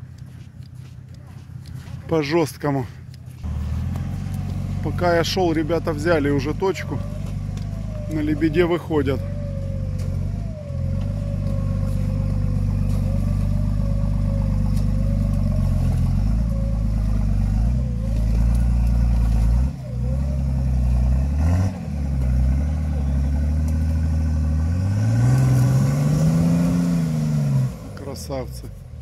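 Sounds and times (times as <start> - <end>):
vehicle engine under load: 0.0 - 29.0.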